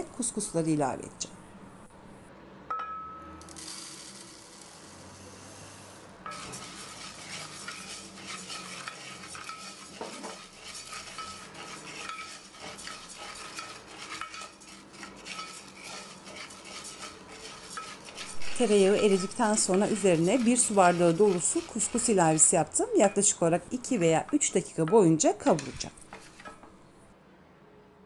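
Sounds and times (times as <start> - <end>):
butter sizzling in a pot: 3.5 - 26.6
wooden spoon stirring grains: 3.5 - 26.7.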